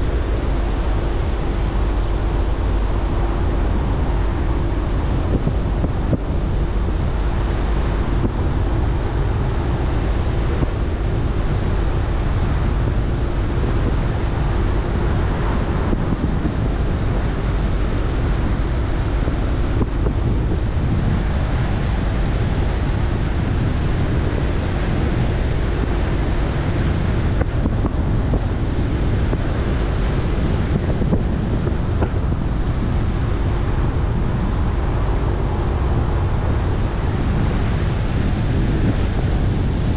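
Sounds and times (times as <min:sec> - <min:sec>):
faint steady hum: 0:00.0 - 0:39.9
tyre and wind rumble: 0:00.0 - 0:39.9.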